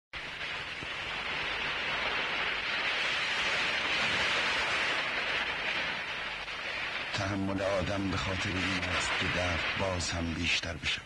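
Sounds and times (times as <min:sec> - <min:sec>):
wind: 0:00.2 - 0:11.0
sea surf: 0:00.6 - 0:11.0.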